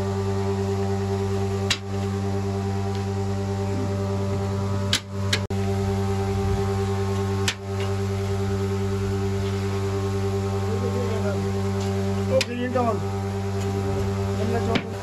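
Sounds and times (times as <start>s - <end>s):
steady deep hum: 0.0s - 15.0s.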